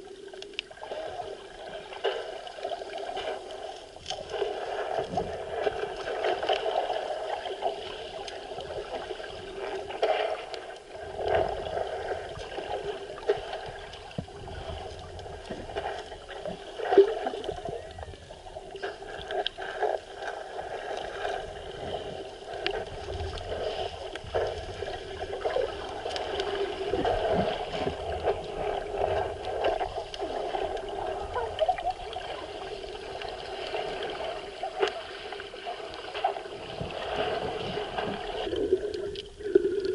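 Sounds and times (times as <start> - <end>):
muffled sea water sloshing: 0.0 - 39.9.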